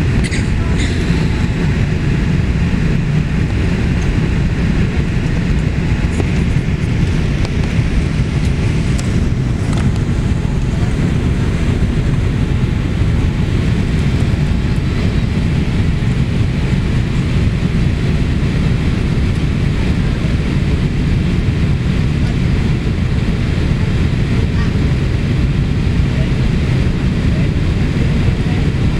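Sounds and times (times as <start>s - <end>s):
airplane cabin engine rush: 0.0s - 28.9s.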